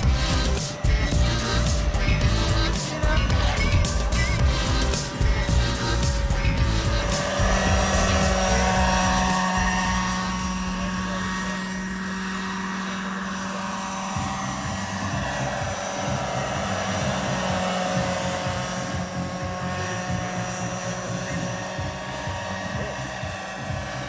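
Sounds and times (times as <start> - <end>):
fluttering low rotor beat: 0.0 - 24.0
model helicopter whine: 0.0 - 24.0.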